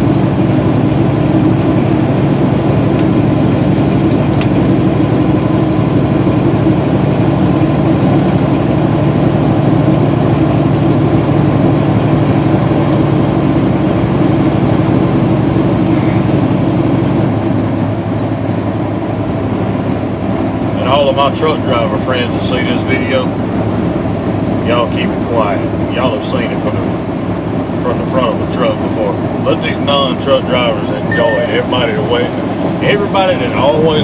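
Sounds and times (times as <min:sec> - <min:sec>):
truck engine and road drone: 0:00.0 - 0:34.0.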